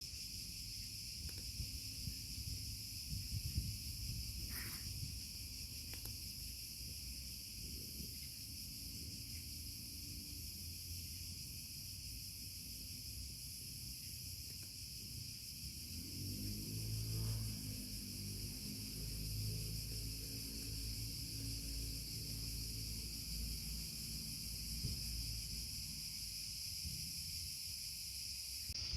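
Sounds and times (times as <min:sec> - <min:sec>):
insects chirring: 0:00.0 - 0:28.9.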